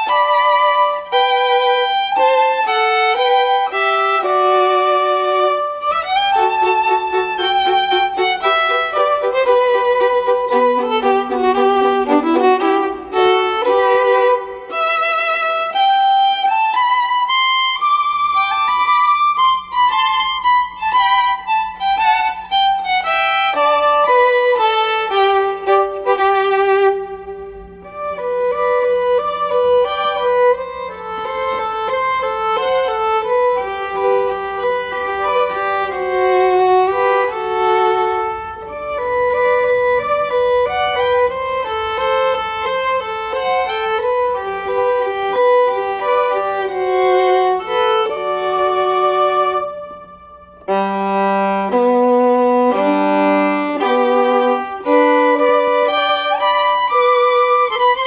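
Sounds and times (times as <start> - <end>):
violin melody with background music: 0.0 - 58.0.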